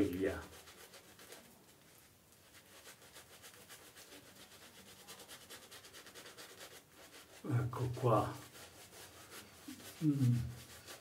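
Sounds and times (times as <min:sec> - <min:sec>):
shaving brush swishing: 0:00.0 - 0:11.0.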